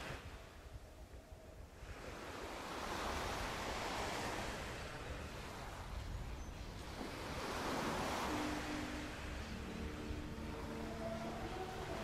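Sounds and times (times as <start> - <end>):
sea waves washing onto beach: 0.0 - 0.6, 1.7 - 12.0.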